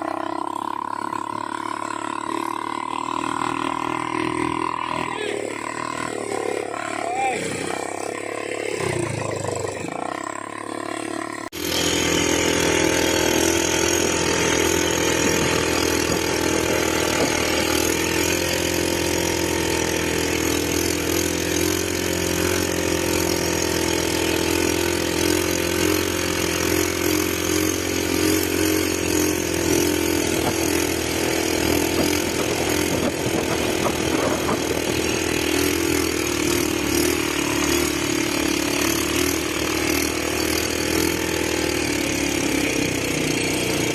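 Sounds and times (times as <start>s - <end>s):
atv engine droning: 0.0s - 43.9s.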